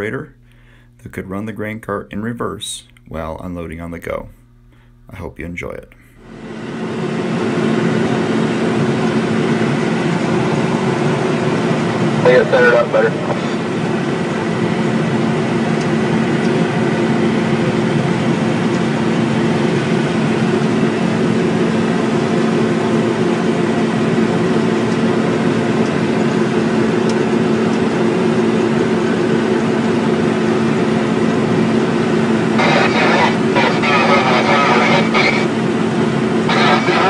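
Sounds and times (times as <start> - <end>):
combine harvester engine drone: 6.1 - 37.0.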